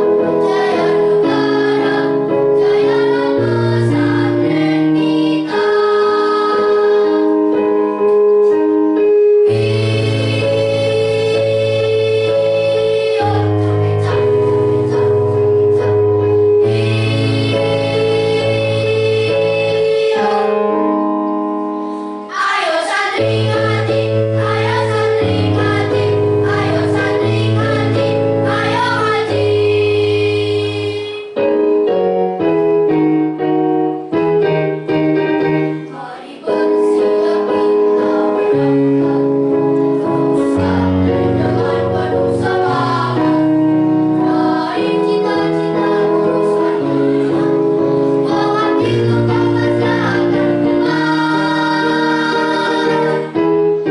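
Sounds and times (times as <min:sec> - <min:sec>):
children's choir singing: 0:00.0 - 0:08.6, 0:09.4 - 0:21.0, 0:22.0 - 0:31.4, 0:35.8 - 0:53.9
instrumental accompaniment: 0:00.0 - 0:53.9.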